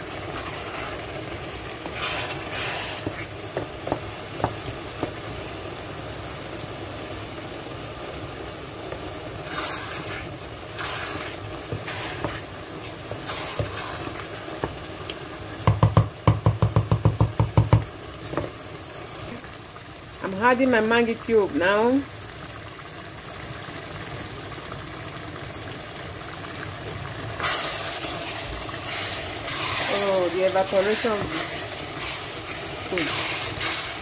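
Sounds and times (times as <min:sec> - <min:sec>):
stew simmering and sizzling: 0:00.0 - 0:34.0.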